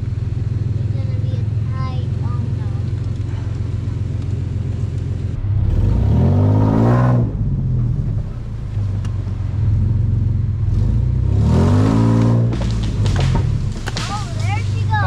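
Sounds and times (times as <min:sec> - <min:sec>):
engine rumbling and revving: 0:00.0 - 0:15.0.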